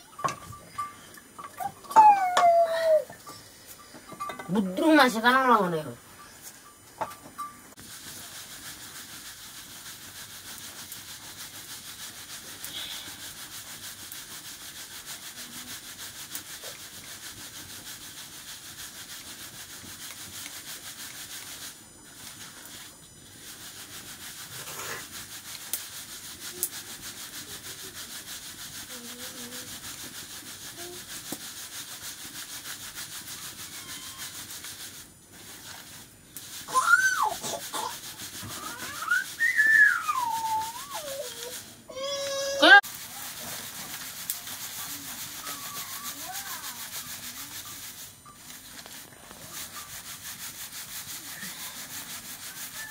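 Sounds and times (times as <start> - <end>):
rice grains scraping in a bowl: 3.2 - 52.9.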